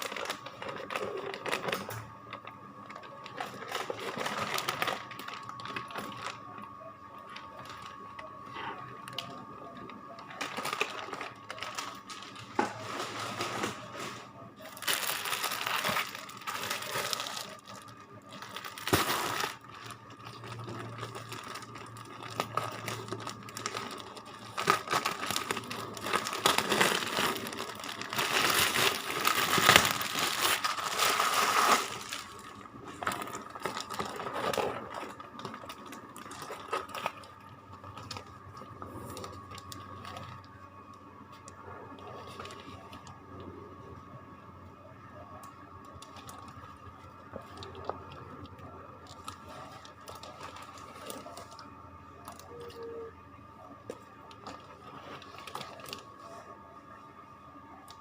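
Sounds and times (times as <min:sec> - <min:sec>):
packaging rustling and crinkling: 0:00.0 - 0:40.7, 0:41.4 - 0:43.2, 0:45.8 - 0:52.9, 0:53.9 - 0:56.2.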